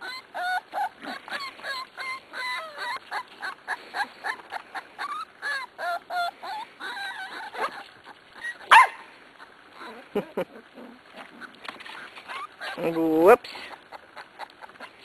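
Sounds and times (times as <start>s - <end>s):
puppies whining and yipping: 0.0s - 15.0s.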